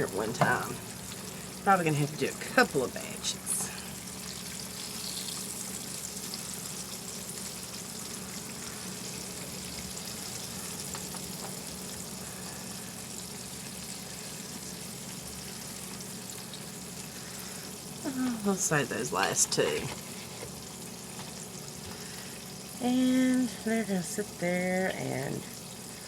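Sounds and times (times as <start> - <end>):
pork chops sizzling in hot oil: 0.0 - 26.0.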